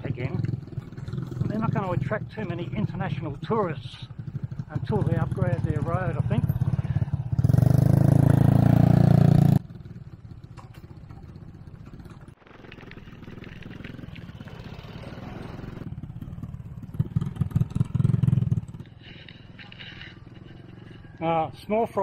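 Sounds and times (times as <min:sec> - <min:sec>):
small motorcycle engine running: 0:00.0 - 0:21.3
quiet road noise: 0:00.0 - 0:22.0
vehicles passing on dirt road: 0:00.0 - 0:22.0.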